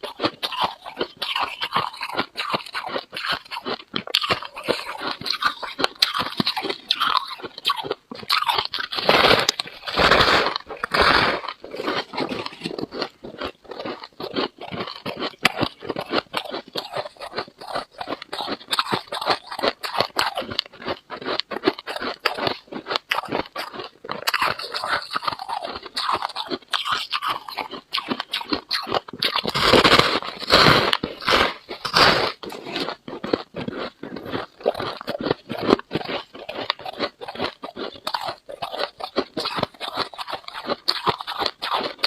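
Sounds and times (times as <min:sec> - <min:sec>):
frost being chewed: 0:00.0 - 0:42.0.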